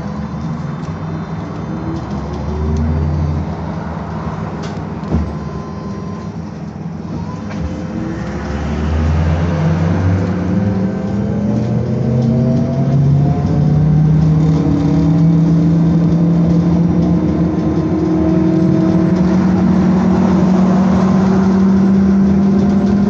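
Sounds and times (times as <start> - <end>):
electric traction drive whine: 0.0 - 23.0
road rumble: 0.0 - 23.0
trolleybus running: 0.0 - 23.0.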